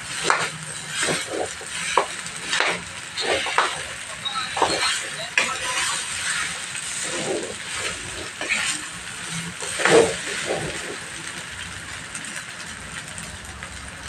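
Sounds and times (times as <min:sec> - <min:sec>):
spatula scraping a pan: 0:00.0 - 0:11.4
rice sizzling in a wok: 0:00.0 - 0:14.0.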